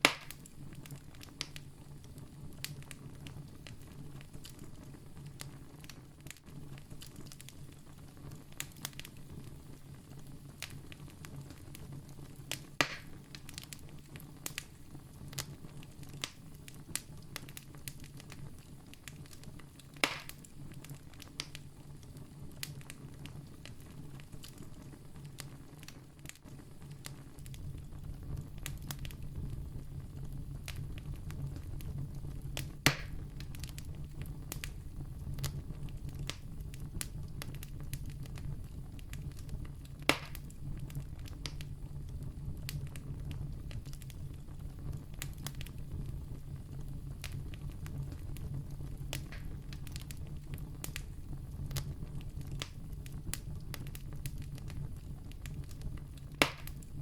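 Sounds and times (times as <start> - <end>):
campfire hissing and rumbling: 0.0 - 57.0
wood crackling and popping: 0.0 - 57.0.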